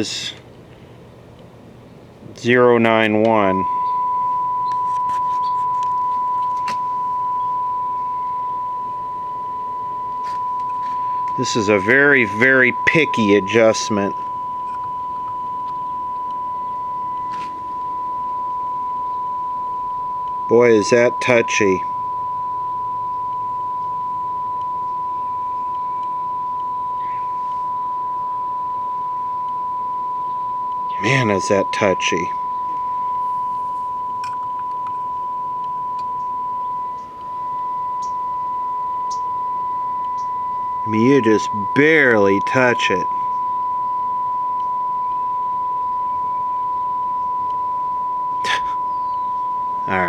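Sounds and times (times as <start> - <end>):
pure test tone: 0.0 - 0.5, 2.2 - 50.0.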